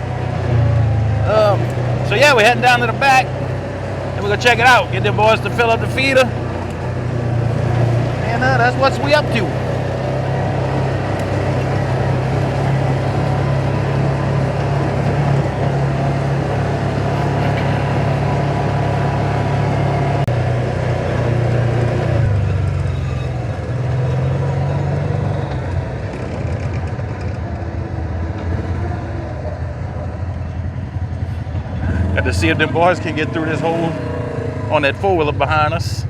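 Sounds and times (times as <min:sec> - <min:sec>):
utility vehicle engine running: 0:00.0 - 0:36.0.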